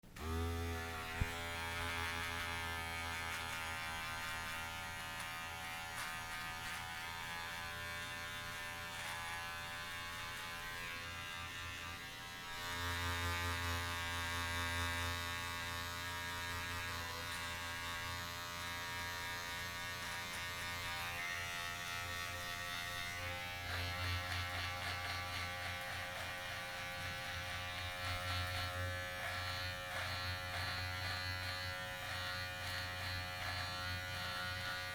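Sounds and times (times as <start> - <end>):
electric shaver buzzing: 0.0 - 34.9.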